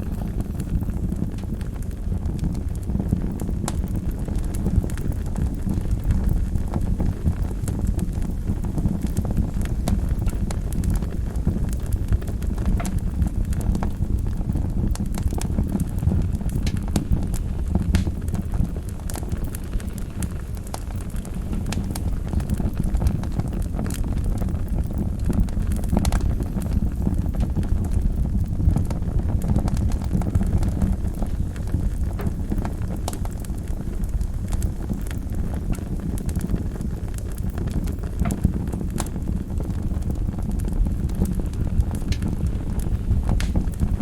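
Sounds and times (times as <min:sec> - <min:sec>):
fire crackling in fireplace: 0:00.0 - 0:44.0.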